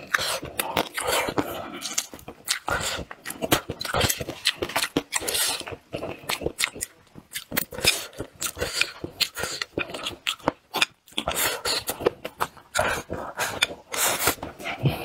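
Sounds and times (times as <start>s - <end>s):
person chewing and smacking lips: 0.0s - 15.0s.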